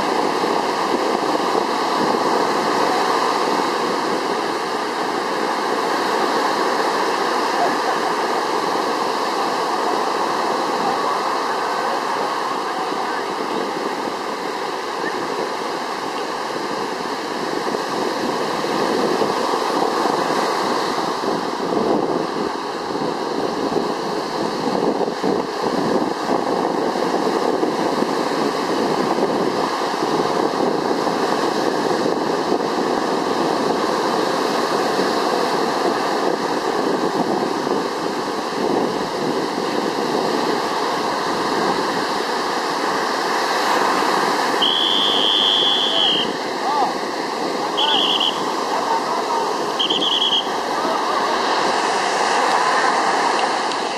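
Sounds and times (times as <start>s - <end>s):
rushing water: 0.0s - 53.9s
wind on microphone: 0.0s - 53.9s.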